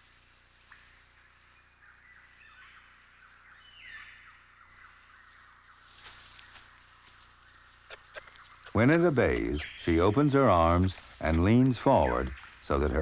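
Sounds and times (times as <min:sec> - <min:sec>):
bird calls and chirps: 0:00.0 - 0:13.0.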